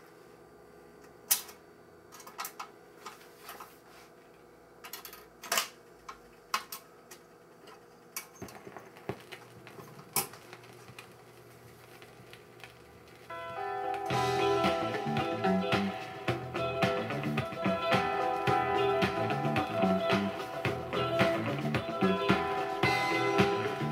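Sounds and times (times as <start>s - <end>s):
faint steady hum: 0.0s - 23.9s.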